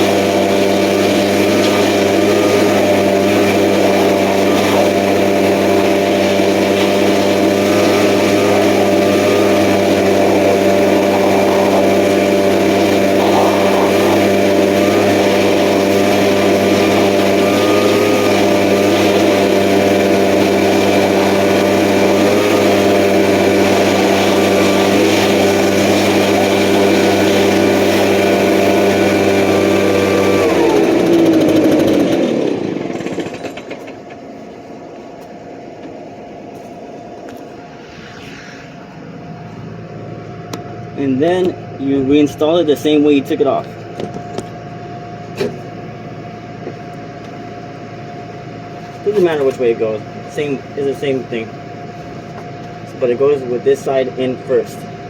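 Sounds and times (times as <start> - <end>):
leaf blower engine running: 0.0 - 38.2, 39.2 - 55.0.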